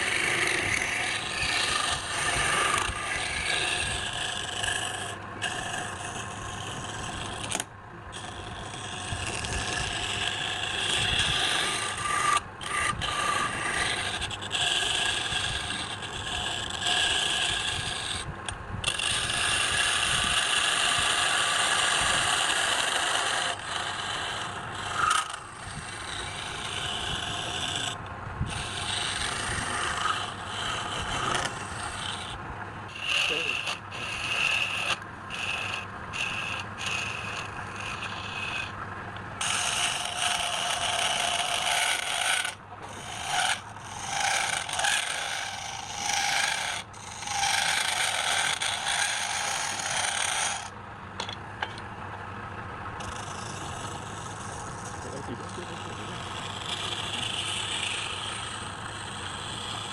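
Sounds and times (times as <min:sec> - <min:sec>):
tool scraping wood on lathe: 0:00.0 - 0:51.9, 0:53.0 - 0:59.9
lathe motor hum: 0:00.0 - 0:59.9.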